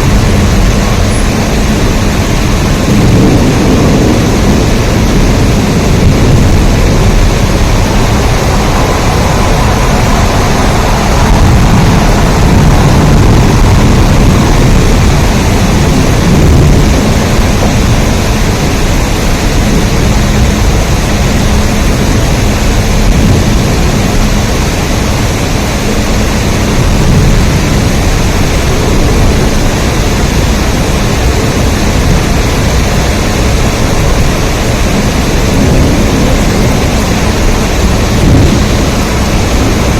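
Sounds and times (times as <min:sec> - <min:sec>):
heavy rain with deep rumble: 0:00.0 - 0:39.9.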